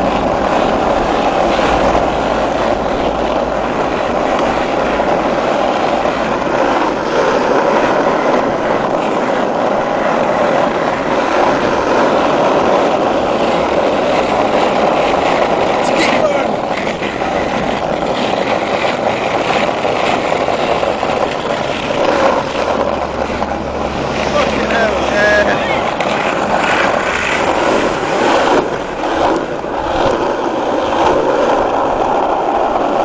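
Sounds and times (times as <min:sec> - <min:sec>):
skateboard wheels rolling on asphalt: 0:00.0 - 0:33.0.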